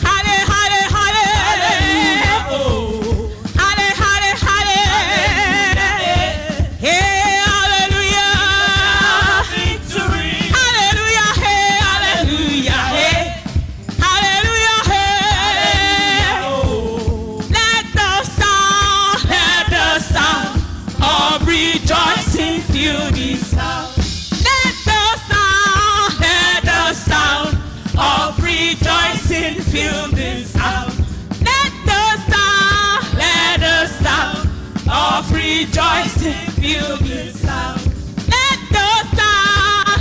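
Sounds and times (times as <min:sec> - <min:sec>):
accompaniment with steady beat: 0:00.0 - 0:40.0
woman singing gospel song: 0:00.0 - 0:40.0.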